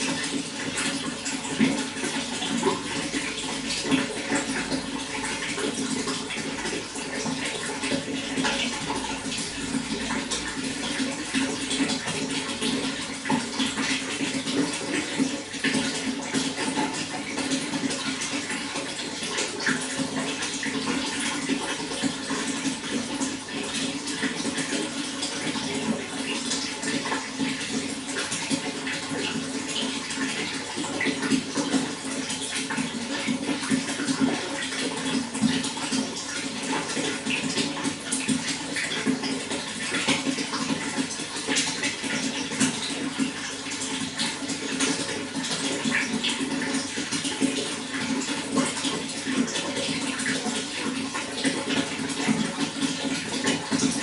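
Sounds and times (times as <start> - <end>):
running water with splashes: 0.0 - 54.0.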